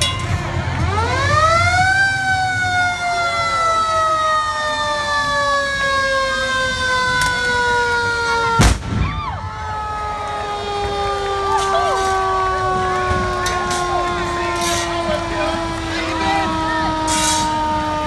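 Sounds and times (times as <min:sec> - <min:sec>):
fire truck siren wail: 0:00.0 - 0:18.0.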